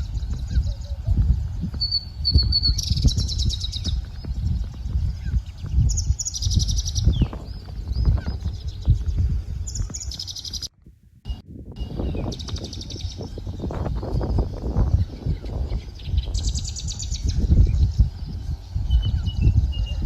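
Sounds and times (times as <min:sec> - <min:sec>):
small birds chirping trills: 0:00.0 - 0:10.7, 0:11.3 - 0:20.0
wind buffeting microphone: 0:00.0 - 0:20.0.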